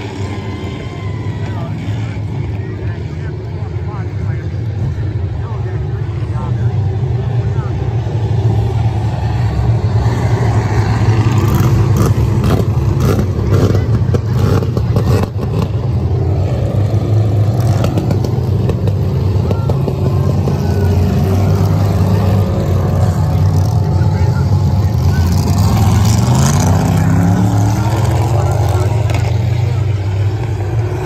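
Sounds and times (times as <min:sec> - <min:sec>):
race car engines droning: 0:00.0 - 0:31.0.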